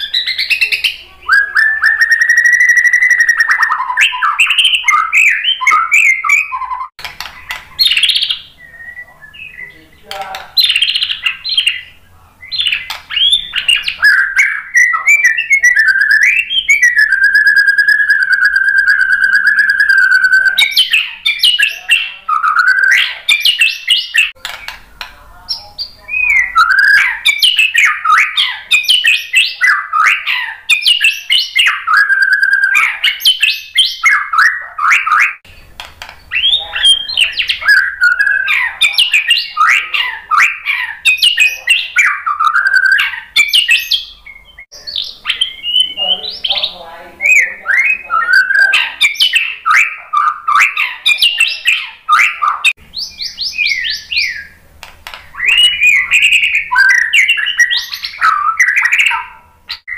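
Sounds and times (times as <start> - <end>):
bird singing whistled phrases: 0.0 - 24.8, 25.5 - 35.4, 36.2 - 54.6, 55.3 - 59.9.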